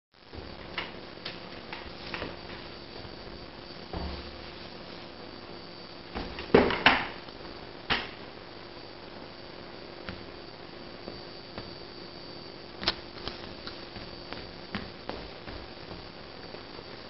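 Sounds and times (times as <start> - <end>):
steady room hum: 0.2 - 17.0.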